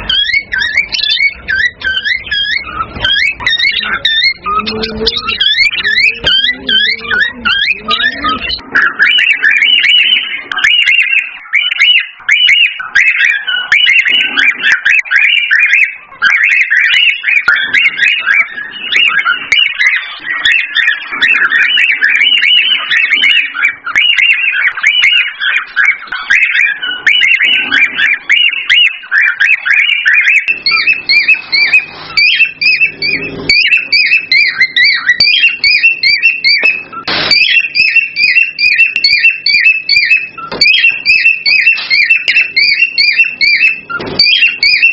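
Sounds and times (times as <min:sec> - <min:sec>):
cockatiels chirping and whistling: 0:00.0 - 0:44.9.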